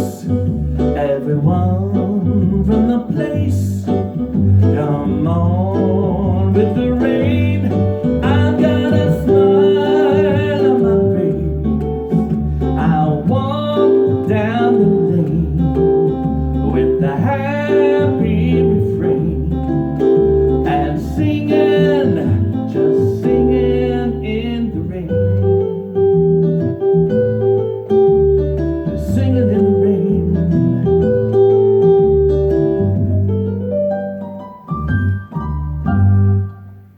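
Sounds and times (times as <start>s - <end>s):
acoustic guitar playing: 0.0s - 36.9s.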